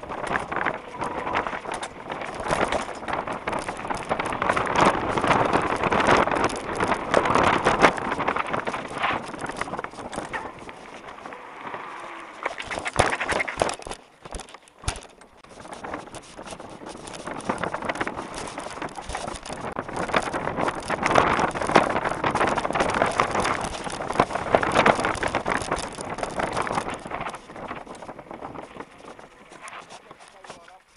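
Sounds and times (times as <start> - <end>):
bike tyres on rough grass: 0.0 - 30.9
rattling and clicking of bike: 0.0 - 30.9.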